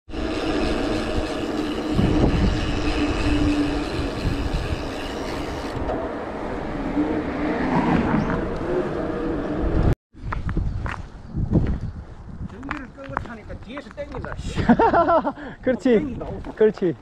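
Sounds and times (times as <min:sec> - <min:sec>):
wind rushing over microphone: 0:00.1 - 0:14.8
bike tyres rolling on asphalt: 0:00.1 - 0:15.1.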